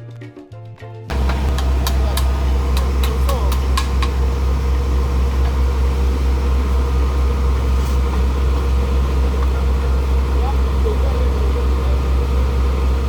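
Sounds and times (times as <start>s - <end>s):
drilling rig engine humming: 1.1s - 13.0s.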